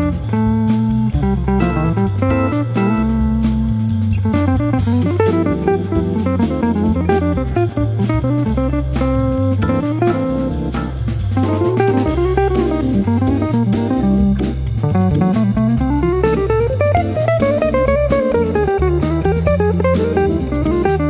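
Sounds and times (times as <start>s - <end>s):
drum kit with cymbals: 0.0s - 21.0s
electric guitar single-note lines: 0.0s - 21.0s
organ walking bass: 0.0s - 21.0s.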